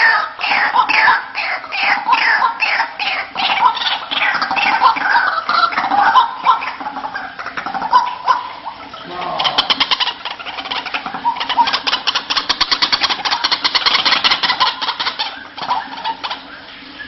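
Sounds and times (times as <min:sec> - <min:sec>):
bird rattling call: 0:00.0 - 0:16.6.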